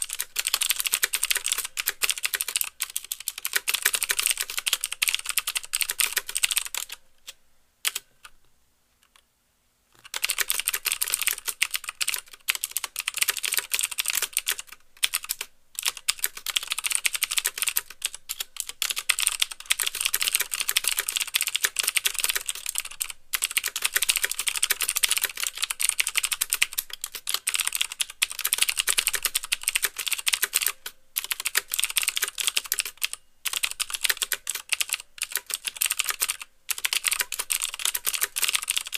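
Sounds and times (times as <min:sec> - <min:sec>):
fast typing on clicky keyboard: 0:00.0 - 0:07.0, 0:07.9 - 0:08.1, 0:10.0 - 0:38.9.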